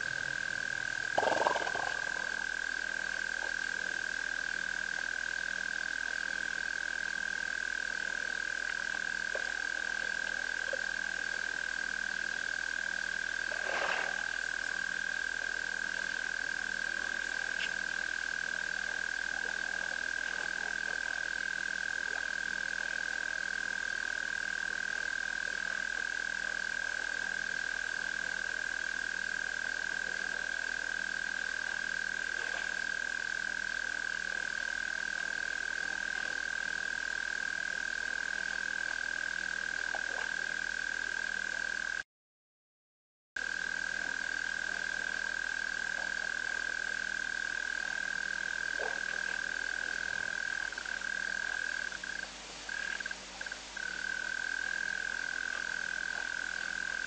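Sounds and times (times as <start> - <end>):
frog chorus: 0.0 - 42.0, 43.4 - 57.0.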